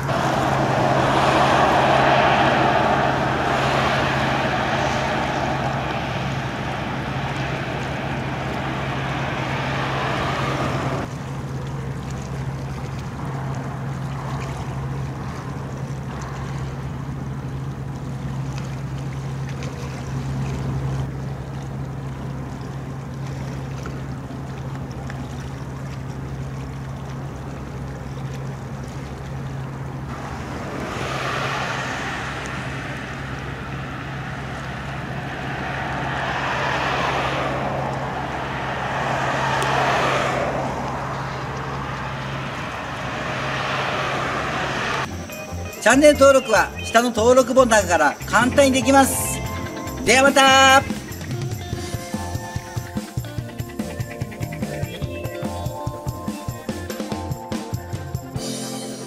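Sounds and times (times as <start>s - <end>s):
rush of wind and water: 0.0s - 58.4s
ferry engine drone: 0.0s - 58.6s.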